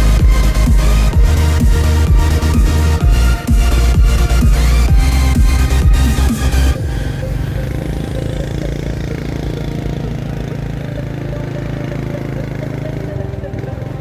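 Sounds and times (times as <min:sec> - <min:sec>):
electronic music: 0:00.0 - 0:14.0
motorcycle engine running: 0:00.0 - 0:14.0.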